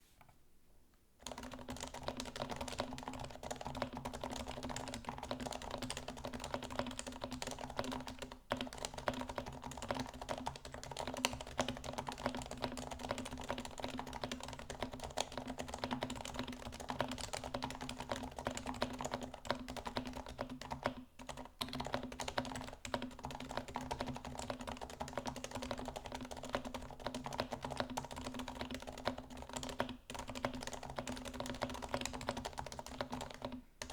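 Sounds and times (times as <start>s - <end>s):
fast keyboard typing: 1.2s - 33.9s.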